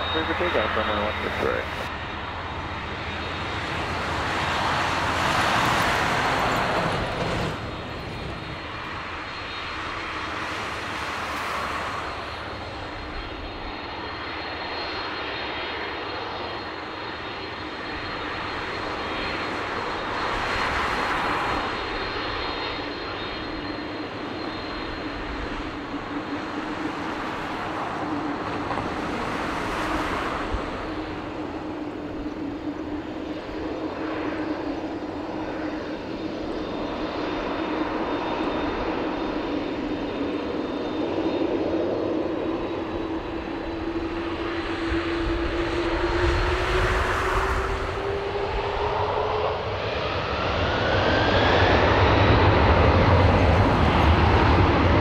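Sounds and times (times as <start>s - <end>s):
faint high whine: 0.0s - 51.4s
jet engines roaring: 0.0s - 55.0s.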